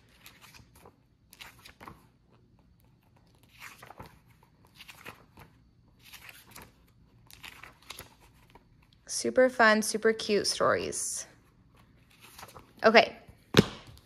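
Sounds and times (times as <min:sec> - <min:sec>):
book pages flipping: 0:00.0 - 0:09.0, 0:11.4 - 0:14.0.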